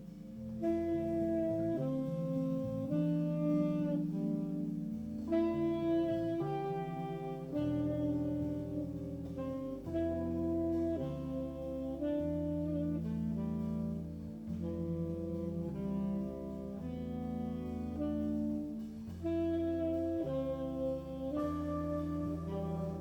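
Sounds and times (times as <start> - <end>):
bass: 0.0 - 23.0
keyboard chords: 0.0 - 23.0
saxophone melody: 0.0 - 23.0.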